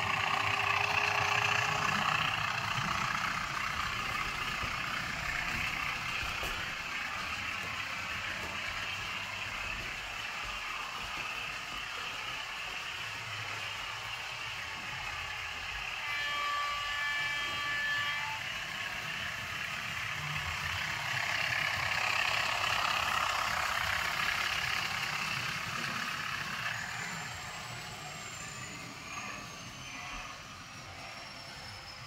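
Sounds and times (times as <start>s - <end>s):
model train diesel engine sound: 0.0s - 32.0s.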